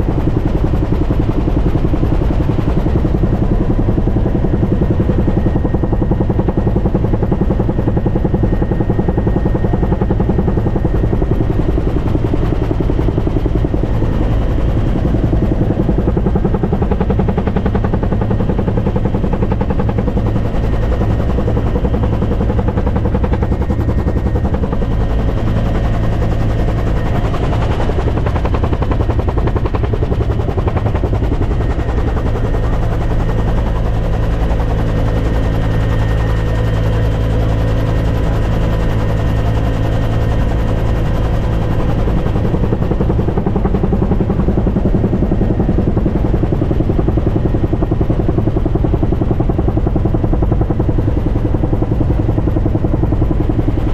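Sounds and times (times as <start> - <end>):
helicopter rotor beating: 0.0 - 53.9
low engine drone: 0.0 - 53.9.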